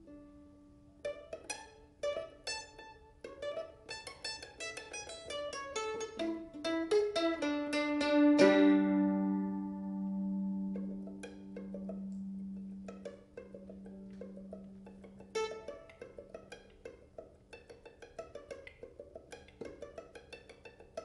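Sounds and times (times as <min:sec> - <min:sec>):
solo mandolin playing: 0:00.0 - 0:21.0.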